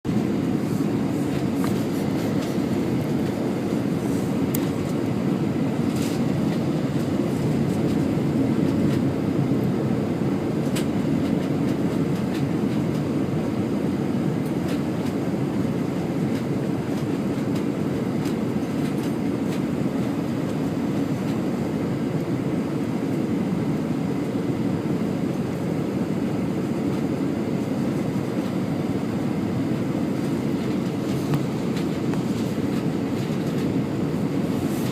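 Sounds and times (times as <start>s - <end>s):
aircraft cabin engine rumble: 0.0s - 34.9s.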